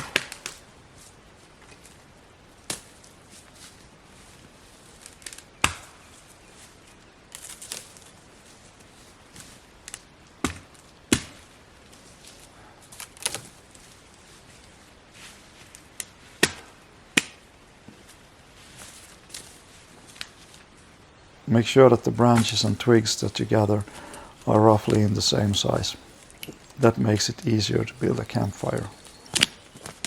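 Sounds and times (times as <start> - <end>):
branches rustling: 0.0 - 30.0
dry branches cracking: 0.0 - 30.0.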